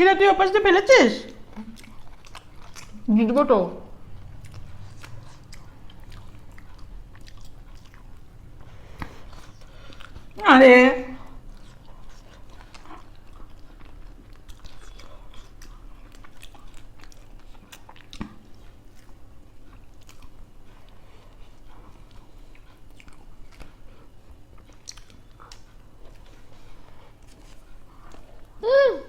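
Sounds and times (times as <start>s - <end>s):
low steady hum: 0.0s - 29.0s
people chewing food: 0.0s - 29.0s.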